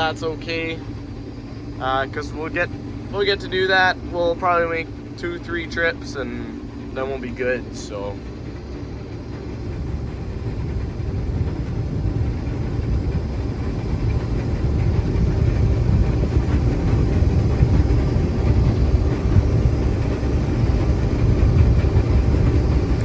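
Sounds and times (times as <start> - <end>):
combine harvester rumbling: 0.0 - 23.0.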